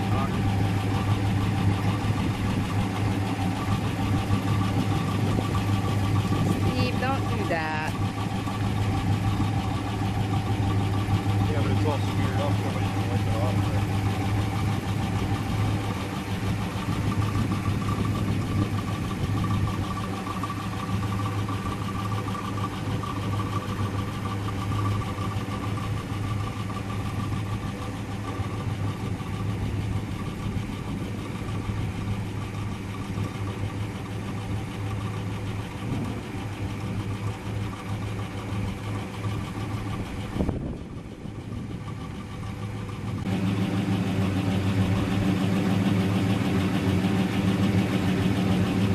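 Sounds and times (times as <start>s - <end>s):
car engine humming: 0.0s - 48.9s.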